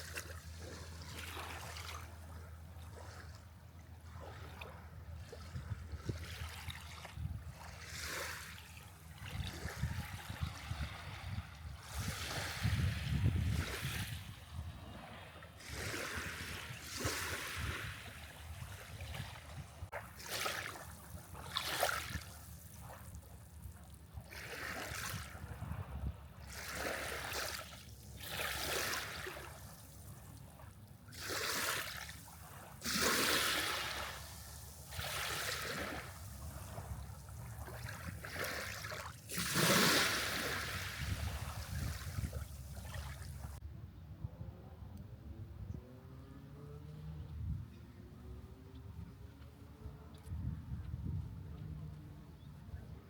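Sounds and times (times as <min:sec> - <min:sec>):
wind rumble on microphone: 0:00.0 - 0:30.8, 0:33.5 - 0:53.0
waves lapping on sandy shore: 0:00.0 - 0:43.6.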